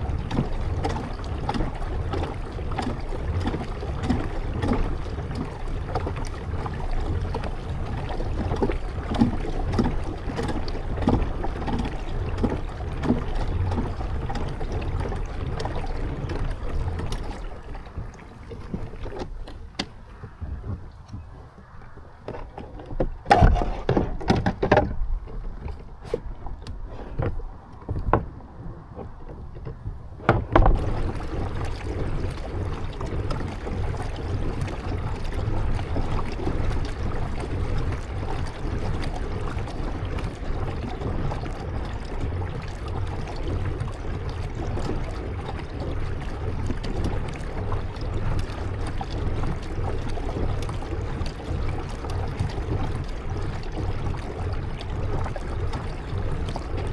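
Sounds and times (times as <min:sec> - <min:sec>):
paddle knocking on hull: 0:00.0 - 0:56.9
water and wind rushing: 0:00.0 - 0:56.9.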